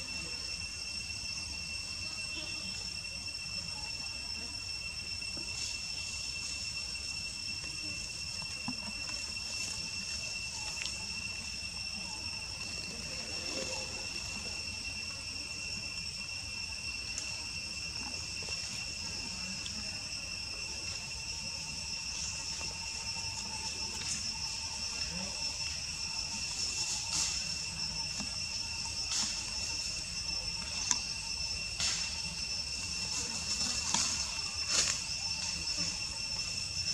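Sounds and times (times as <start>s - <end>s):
insects buzzing: 0.0s - 36.9s.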